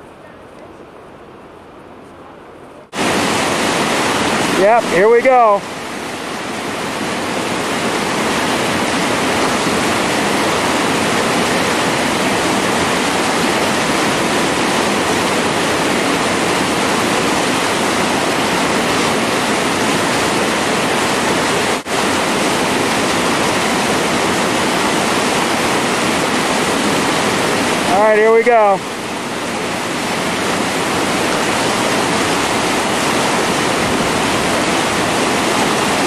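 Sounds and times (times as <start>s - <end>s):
water rushing over boulders: 2.9s - 36.0s.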